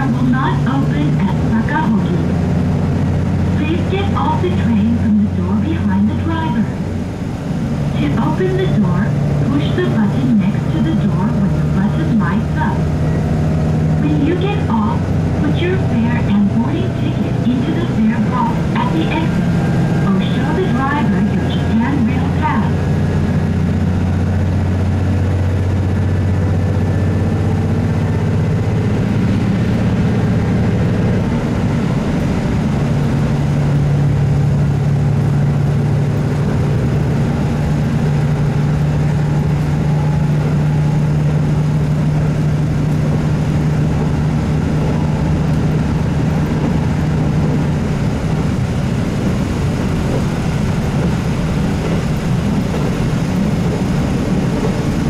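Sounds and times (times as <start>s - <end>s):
diesel engine droning: 0.0s - 55.0s
wheels rumbling on rail: 0.0s - 55.0s.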